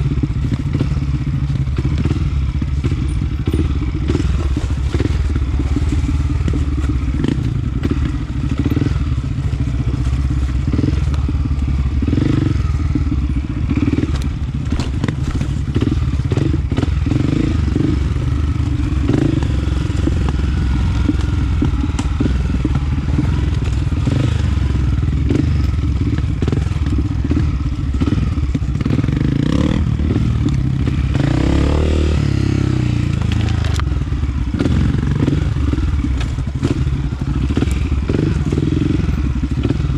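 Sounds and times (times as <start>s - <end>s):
trail bike engine running: 0.0s - 39.9s.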